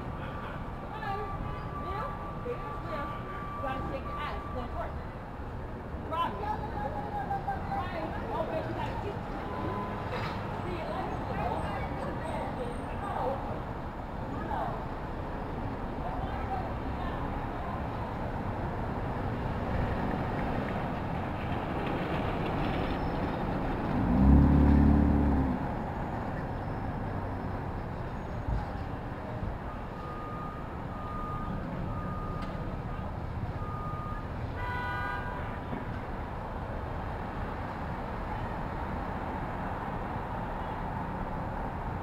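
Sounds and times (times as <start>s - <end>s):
passing vehicles: 0.0s - 42.0s.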